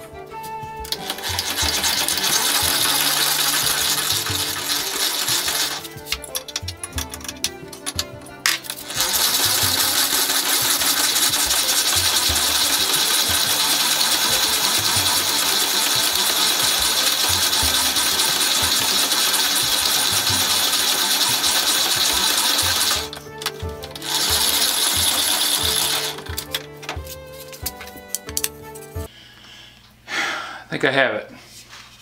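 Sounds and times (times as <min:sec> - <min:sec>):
hand-cranked drill press rattling: 0:00.8 - 0:29.0.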